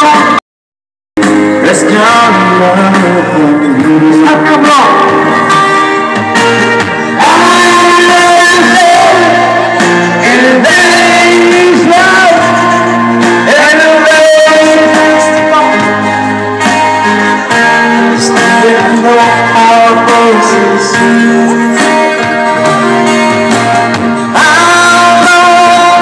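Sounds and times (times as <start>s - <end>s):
person singing: 0.0s - 0.4s, 1.2s - 26.0s
bass line: 1.2s - 26.0s
electronic keyboard chords: 1.2s - 26.0s.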